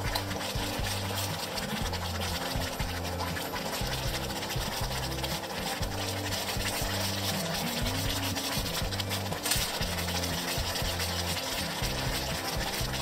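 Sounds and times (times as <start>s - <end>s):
wooden spoon scraping a metal pot: 0.0s - 13.0s.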